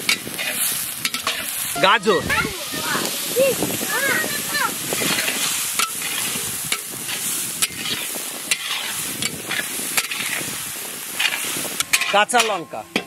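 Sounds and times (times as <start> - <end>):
spatula scraping and knocking wok: 0.0 - 13.0
vegetables sizzling in a wok: 0.0 - 13.0.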